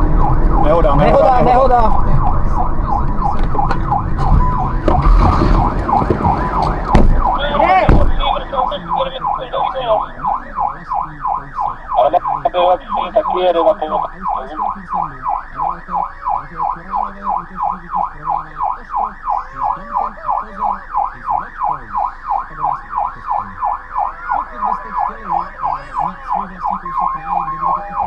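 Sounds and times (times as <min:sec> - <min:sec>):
police siren yelp: 0:00.0 - 0:28.0
two-pitch siren: 0:00.0 - 0:28.0.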